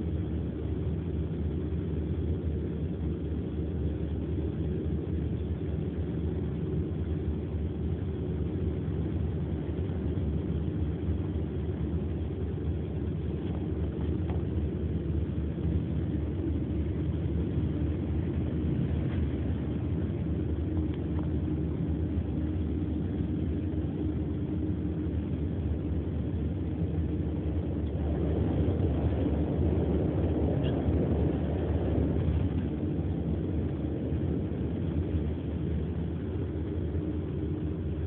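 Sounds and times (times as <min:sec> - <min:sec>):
car engine rumble: 0:00.0 - 0:38.0
road noise inside car: 0:00.0 - 0:38.0.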